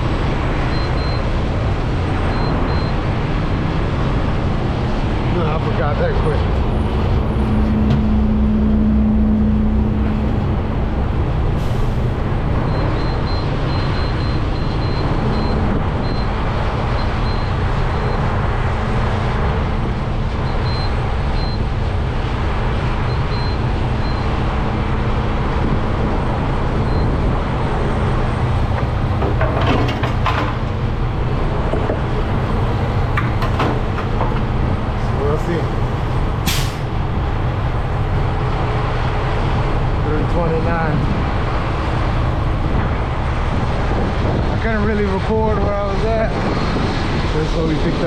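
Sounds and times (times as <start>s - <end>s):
diesel engine idling: 0.0s - 45.3s.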